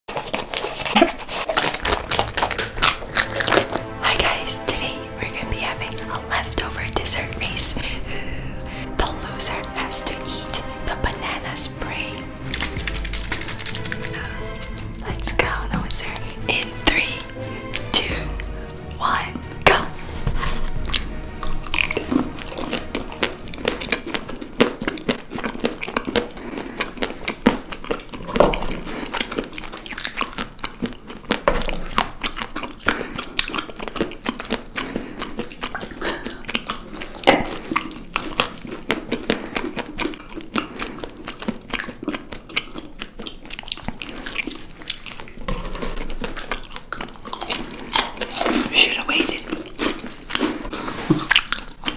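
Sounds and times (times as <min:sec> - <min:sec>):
chocolates being chewed: 0:00.1 - 0:51.9.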